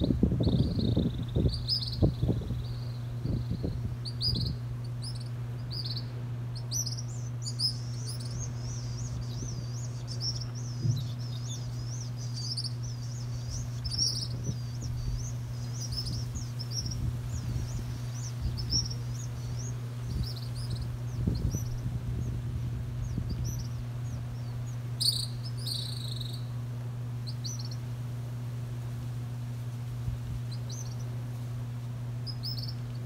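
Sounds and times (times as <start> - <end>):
young birds begging calls: 0.0 - 28.8, 29.8 - 33.0
steady low hum: 0.0 - 33.0.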